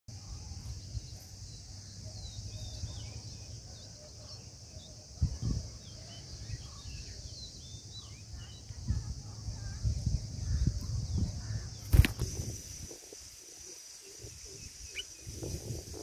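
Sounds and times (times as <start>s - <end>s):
small birds chirping: 0.1s - 16.0s
steady high hiss: 0.1s - 16.0s.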